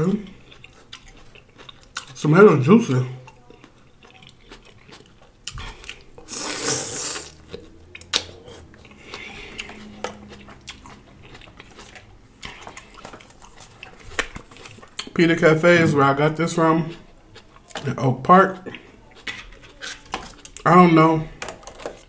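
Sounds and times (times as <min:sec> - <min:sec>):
wet chewing and mouth clicks: 0:00.2 - 0:15.2, 0:16.6 - 0:18.0, 0:18.6 - 0:20.7.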